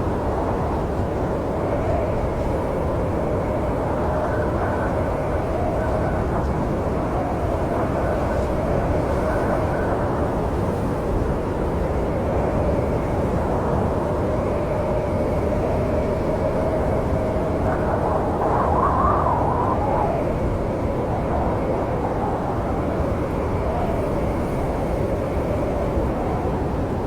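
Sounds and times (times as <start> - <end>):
snowstorm wind howling: 0.0 - 27.0.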